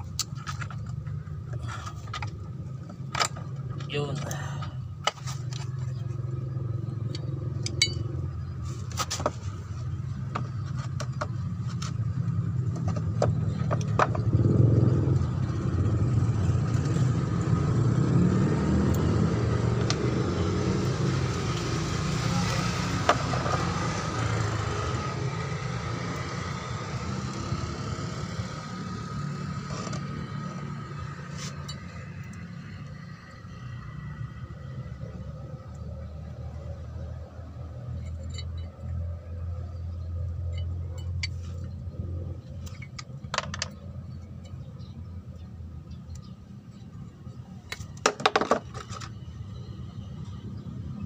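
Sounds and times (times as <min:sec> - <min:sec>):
engine rumble: 0:00.0 - 0:51.0.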